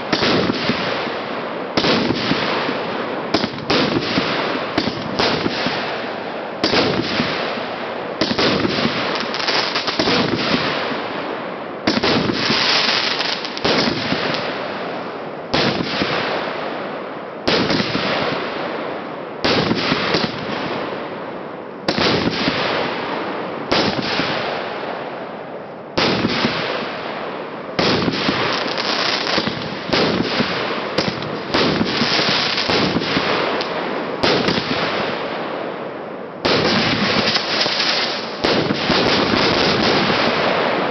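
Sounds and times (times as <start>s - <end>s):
crackling firework bursts: 0.0s - 11.2s, 11.8s - 16.8s, 17.4s - 18.6s, 19.4s - 20.9s, 21.9s - 25.0s, 26.0s - 27.2s, 27.8s - 35.4s, 36.4s - 40.9s.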